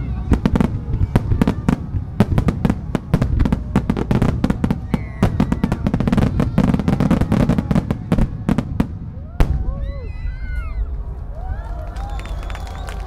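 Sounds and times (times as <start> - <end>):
fireworks barrage: 0.0 - 13.0.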